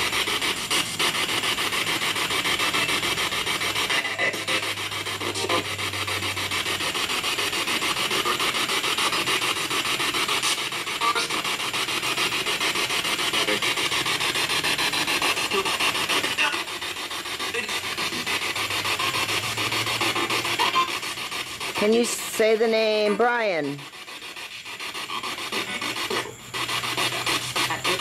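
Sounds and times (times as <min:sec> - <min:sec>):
radio static sweeping: 0:00.0 - 0:28.0.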